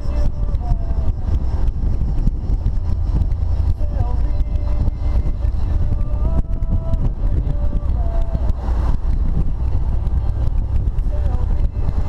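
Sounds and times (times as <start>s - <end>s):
engine and road rumble: 0.0s - 12.0s
wind buffeting microphone: 0.0s - 12.0s.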